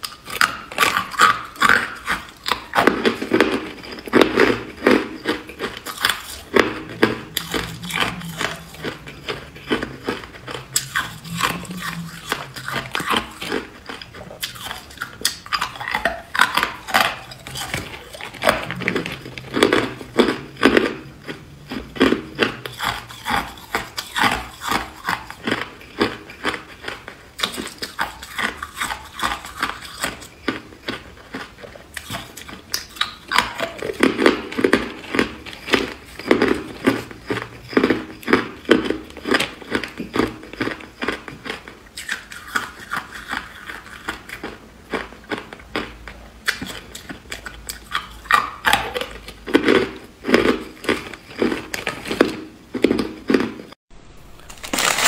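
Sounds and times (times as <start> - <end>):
ice cubes crunching while chewed: 0.0 - 55.0.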